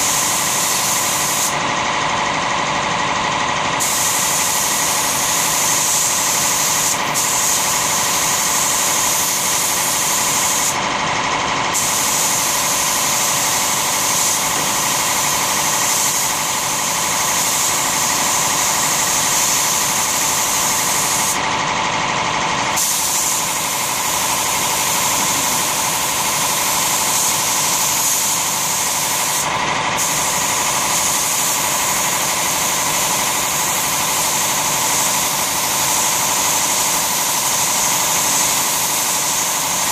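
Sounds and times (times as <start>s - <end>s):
spray gun hissing: 0.0s - 1.6s, 3.8s - 10.8s, 11.7s - 21.5s, 22.7s - 39.9s
steady machine hum: 0.0s - 39.9s.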